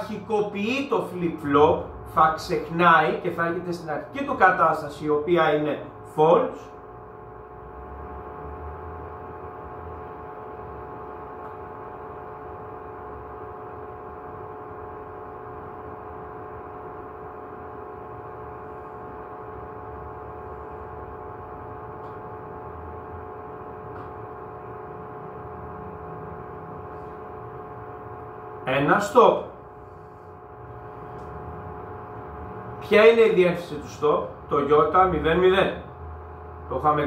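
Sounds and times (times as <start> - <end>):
electrical and fan hum: 0.0 - 37.0.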